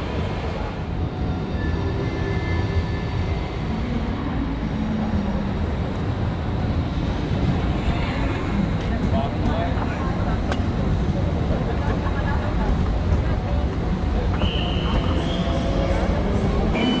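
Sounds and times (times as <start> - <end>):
train rolling low rumble: 0.0 - 17.0.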